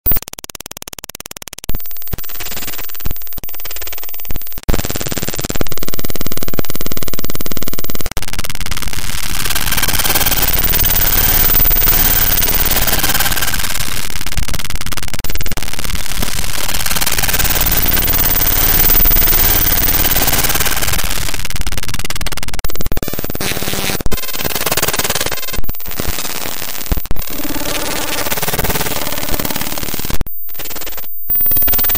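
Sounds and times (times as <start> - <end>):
choppy clicks: 0.0 - 31.9
steady buzzing tone: 0.0 - 31.9
stuttering digital glitch noise: 0.1 - 31.9
static-like noise: 1.7 - 31.9.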